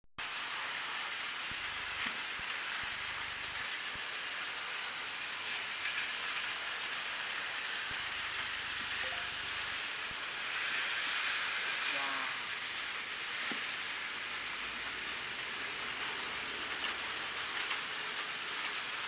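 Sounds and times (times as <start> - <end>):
toy trains rattling: 0.2 - 19.0.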